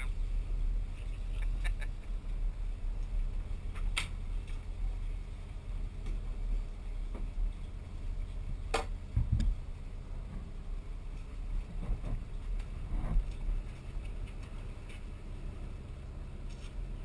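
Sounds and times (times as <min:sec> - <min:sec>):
boat low rumble: 0:00.0 - 0:17.0.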